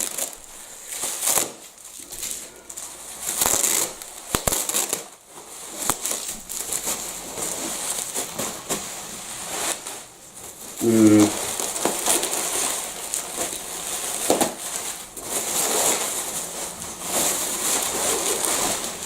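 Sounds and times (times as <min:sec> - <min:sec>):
packing material rustling: 0:00.0 - 0:19.0.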